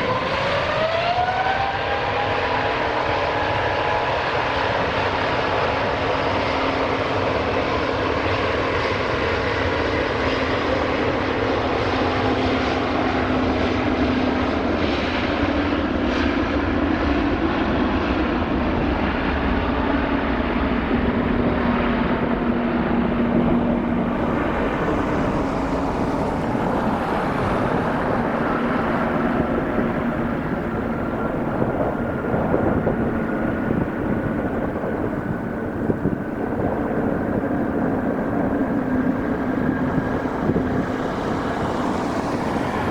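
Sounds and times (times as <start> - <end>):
jet engines roaring at takeoff: 0.0 - 42.9.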